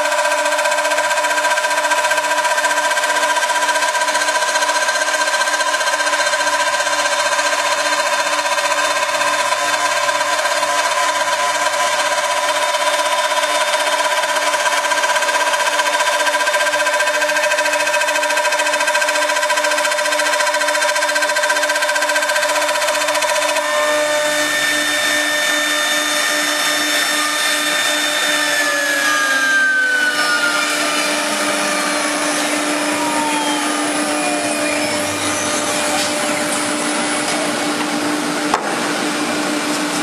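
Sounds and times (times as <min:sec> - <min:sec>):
router spindle whine: 0:00.0 - 0:40.0.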